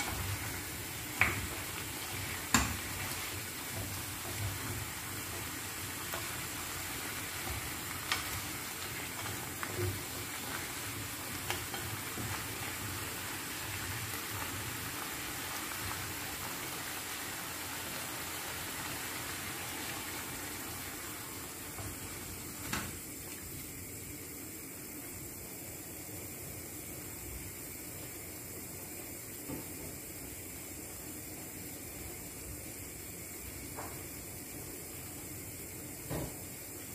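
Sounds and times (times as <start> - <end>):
food sizzling in frying pan: 0.0 - 36.9.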